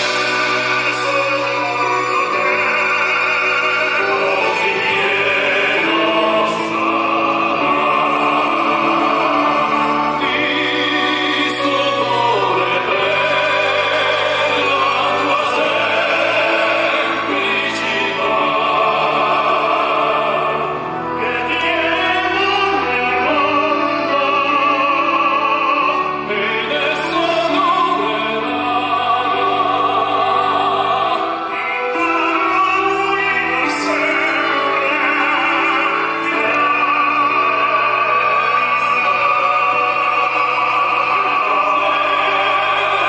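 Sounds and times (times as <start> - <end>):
instrumental accompaniment: 0.0 - 43.0
tenor voices singing opera: 0.0 - 43.0.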